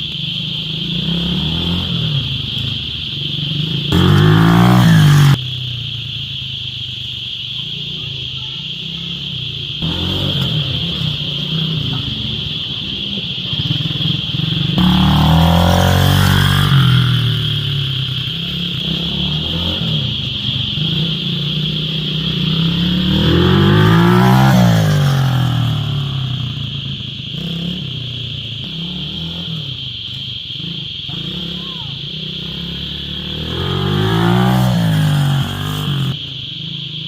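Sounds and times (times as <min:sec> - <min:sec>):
small engine revving: 0:00.0 - 0:05.9, 0:07.8 - 0:37.0.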